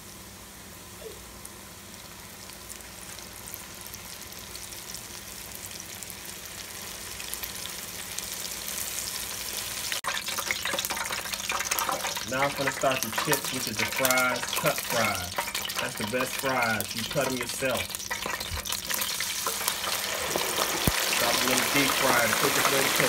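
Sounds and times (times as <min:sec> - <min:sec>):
fish deep-frying in hot oil: 0:00.0 - 0:23.0.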